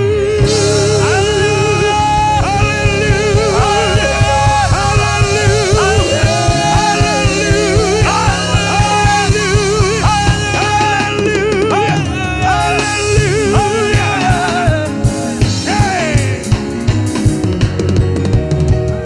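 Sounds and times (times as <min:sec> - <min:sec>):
person singing with vibrato: 0:00.0 - 0:16.8
band with steady drum beat: 0:00.0 - 0:19.0.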